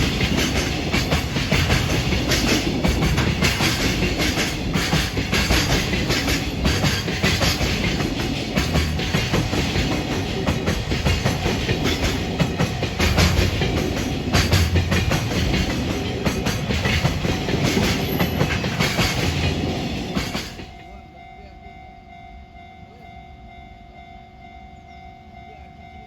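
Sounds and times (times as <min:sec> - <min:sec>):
wheels clacking over rail joints: 0:00.0 - 0:21.0
freight train rumbling past: 0:00.0 - 0:26.0.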